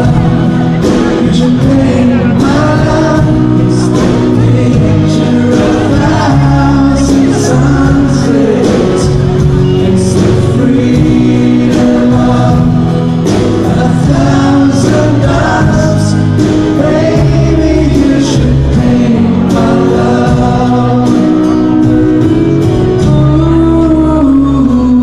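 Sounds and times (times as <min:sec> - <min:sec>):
man singing pop ballad: 0:00.0 - 0:25.0
piano and band accompaniment: 0:00.0 - 0:25.0.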